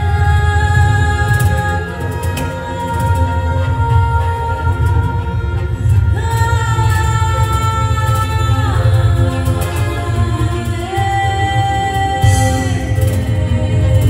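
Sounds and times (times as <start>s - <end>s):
violin: 0.0s - 14.0s
woman singing: 0.0s - 14.0s.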